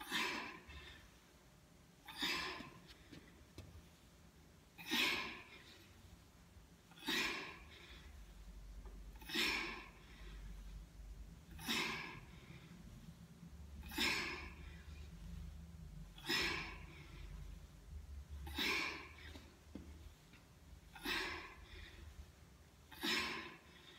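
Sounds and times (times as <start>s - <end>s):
woman breathing hard: 0.0s - 1.4s, 2.0s - 4.0s, 6.9s - 23.9s.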